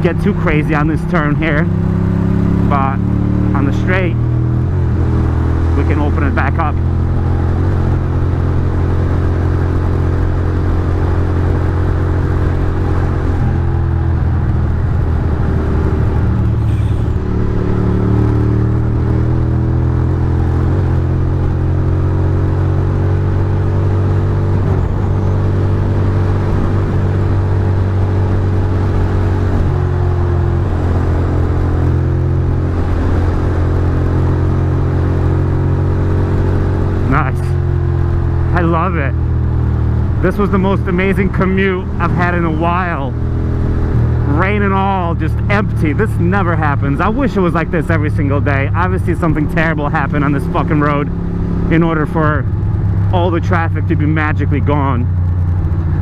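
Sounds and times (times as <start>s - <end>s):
motorcycle engine running hard: 0.0s - 56.0s
wind and road noise: 0.0s - 56.0s.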